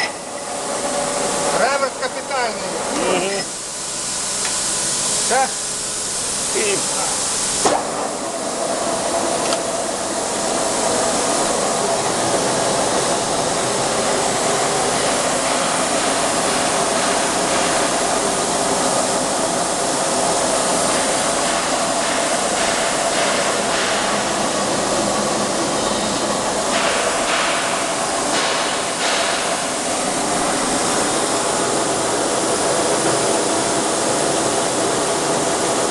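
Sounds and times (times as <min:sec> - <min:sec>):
lathe whirring hum: 0:00.0 - 0:35.9.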